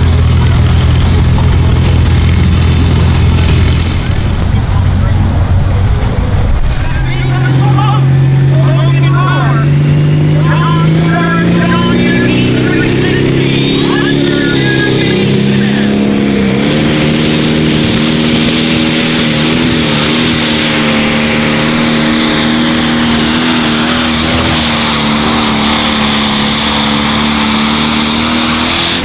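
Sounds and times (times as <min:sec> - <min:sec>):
diesel engine at full throttle: 0:00.0 - 0:29.0.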